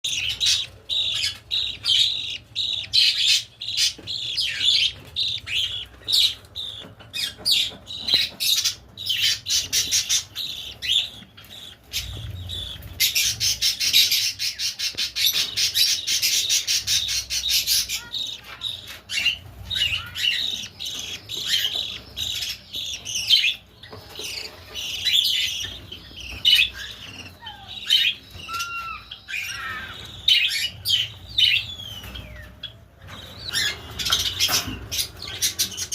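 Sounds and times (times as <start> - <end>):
budgerigars chirping and chattering: 0.0 - 35.9.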